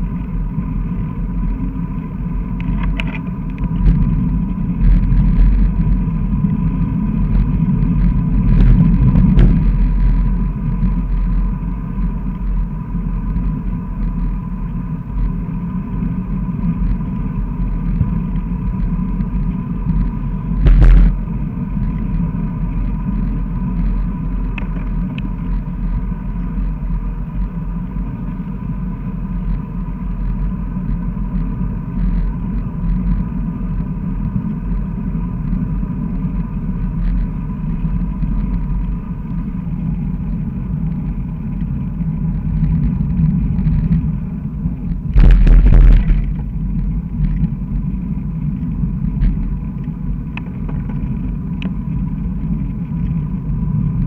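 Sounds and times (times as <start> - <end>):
wind rush and road rumble: 0.0 - 54.0.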